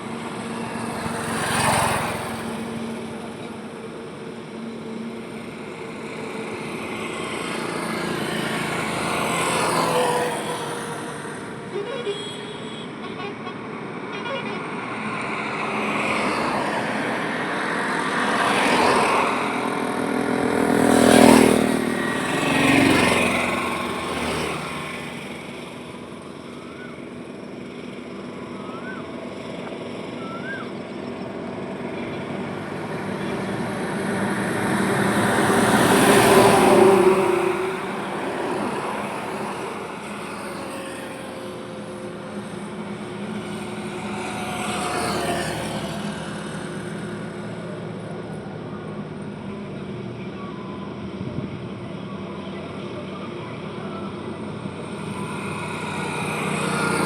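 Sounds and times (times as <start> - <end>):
steady road noise: 0.0 - 57.0
vehicles passing: 0.0 - 57.0.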